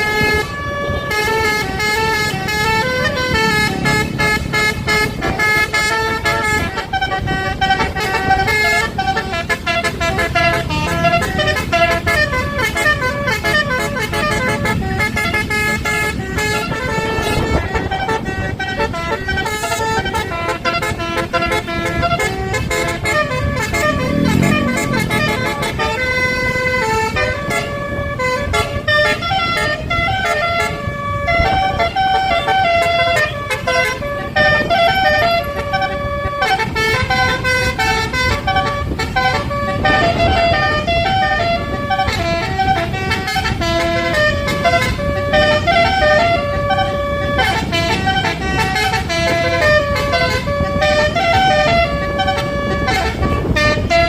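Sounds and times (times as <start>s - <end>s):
tuned air horns playing a tune: 0.0s - 54.0s.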